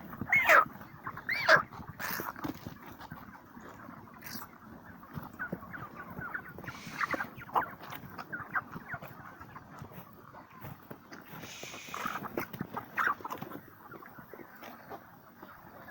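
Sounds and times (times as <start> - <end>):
chickens peeping and clucking: 0.0 - 15.9.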